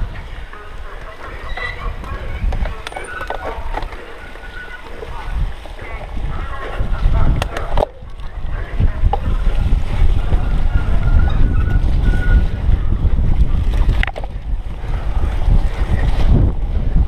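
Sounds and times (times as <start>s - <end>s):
bike rumbling over bumpy grass: 0.0s - 17.0s
wind buffeting microphone: 0.0s - 17.0s.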